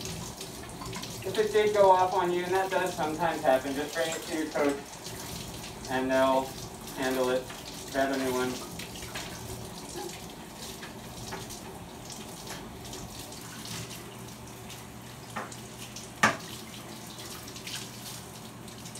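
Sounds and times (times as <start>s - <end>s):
tap water running into sink: 0.0s - 18.9s.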